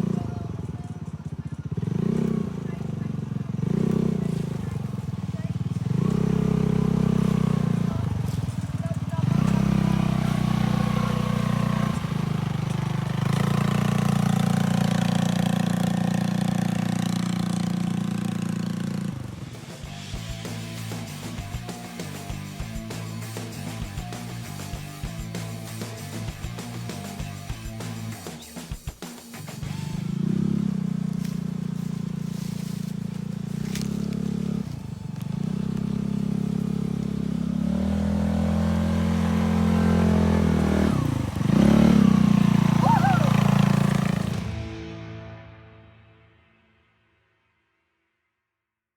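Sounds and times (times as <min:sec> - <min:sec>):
small engine running: 0:00.0 - 0:44.8.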